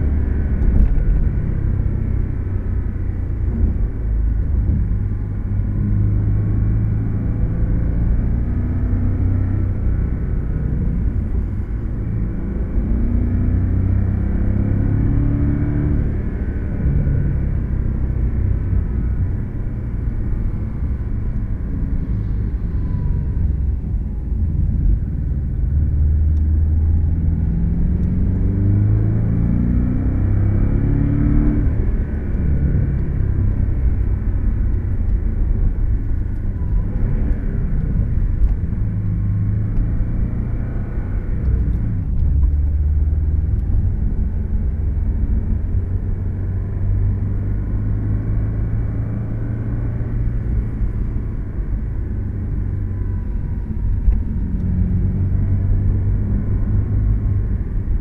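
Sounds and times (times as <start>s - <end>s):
road noise: 0.0s - 58.0s
sports car engine accelerating: 0.0s - 58.0s.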